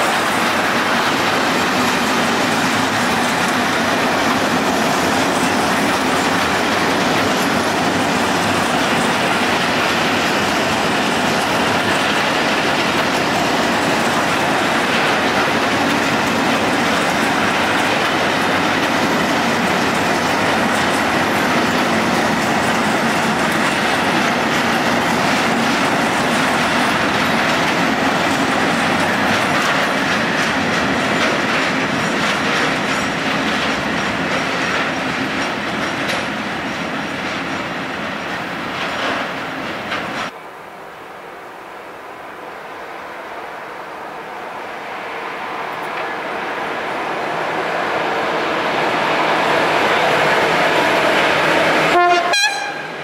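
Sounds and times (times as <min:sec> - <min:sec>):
train wheels clattering on rails: 0:00.0 - 0:40.4, 0:44.9 - 0:53.0.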